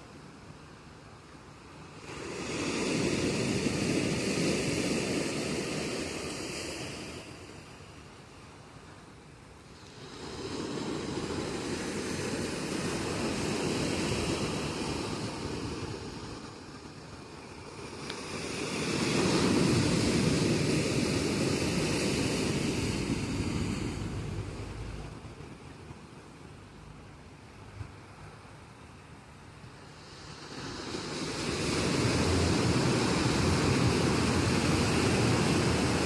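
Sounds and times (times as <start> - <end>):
sea waves breaking on a beach: 0.0 - 36.0.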